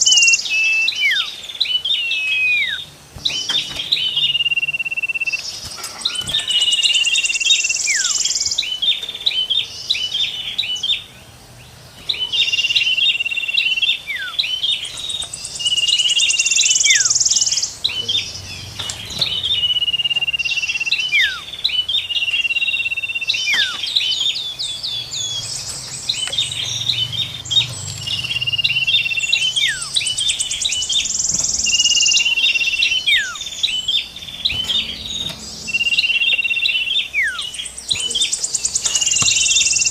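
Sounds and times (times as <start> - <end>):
buzzy bird trill: 0.0 - 11.1, 12.0 - 39.9
songbird calls: 0.0 - 39.9.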